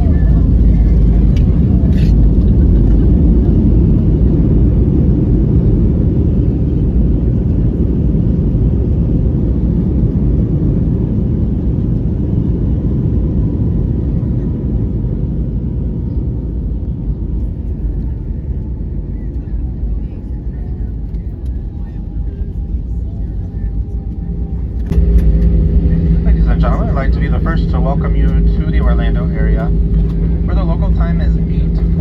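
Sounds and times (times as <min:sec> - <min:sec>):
low rumble of engines and wheels: 0:00.0 - 0:32.0.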